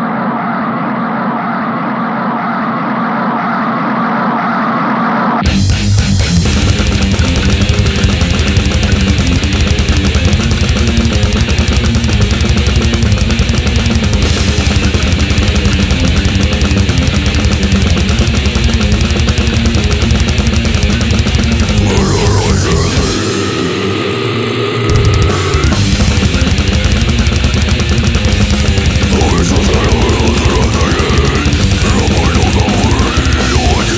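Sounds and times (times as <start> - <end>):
death metal music: 5.4 - 33.9.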